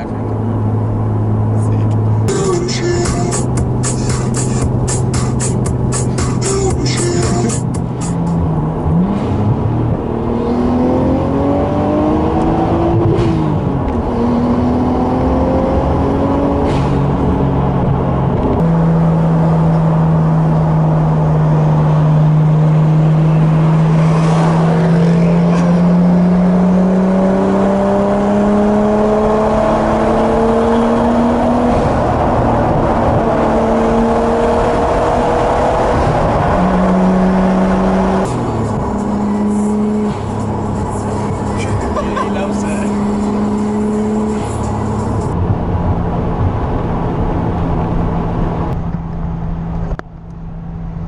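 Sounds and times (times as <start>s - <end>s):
car engine accelerating: 0.0s - 51.0s
tyre and road noise: 0.0s - 51.0s.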